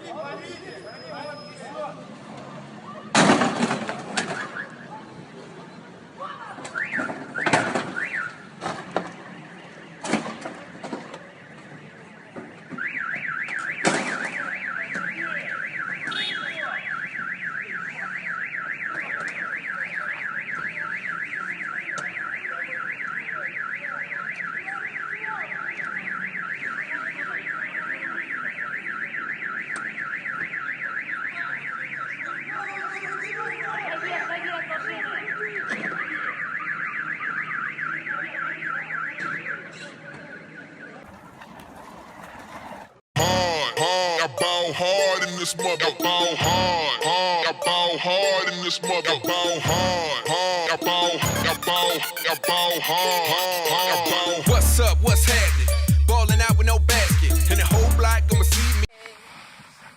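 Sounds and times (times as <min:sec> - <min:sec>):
car alarm warbling: 0:06.7 - 0:08.5, 0:12.7 - 0:58.9.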